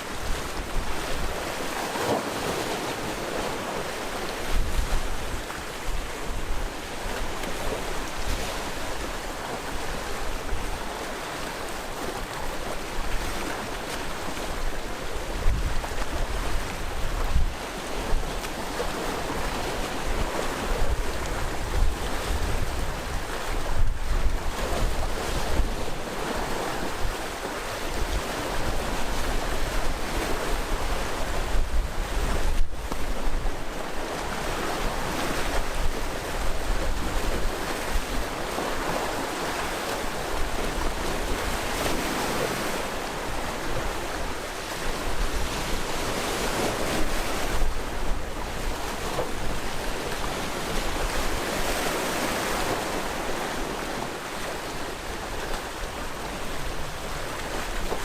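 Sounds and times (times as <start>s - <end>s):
sea waves breaking: 0.0s - 58.0s
wind rumbling on microphone: 0.0s - 58.0s.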